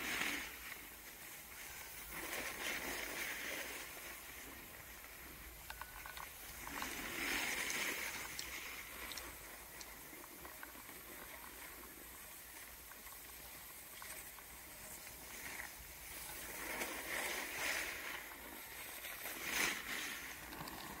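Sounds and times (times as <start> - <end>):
snowboard scraping on snow: 0.0 - 5.4, 6.6 - 10.1, 11.0 - 21.0.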